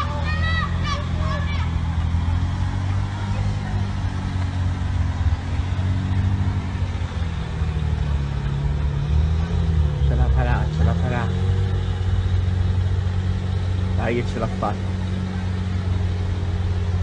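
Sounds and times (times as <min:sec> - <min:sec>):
car engine droning under load: 0:00.0 - 0:17.0.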